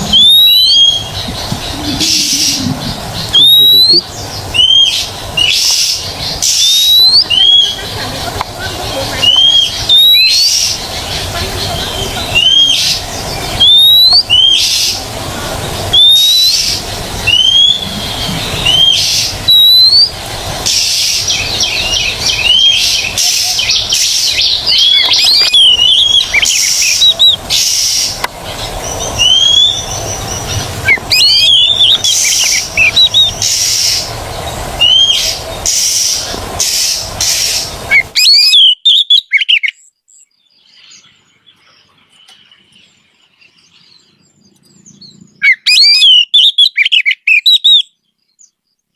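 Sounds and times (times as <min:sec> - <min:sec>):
songbird whistles and trills: 0:00.0 - 0:48.9.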